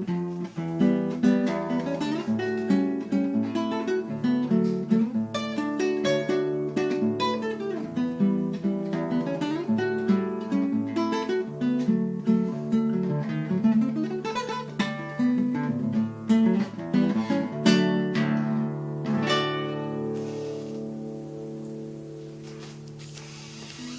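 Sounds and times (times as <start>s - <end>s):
acoustic guitar playing: 0.0s - 23.9s.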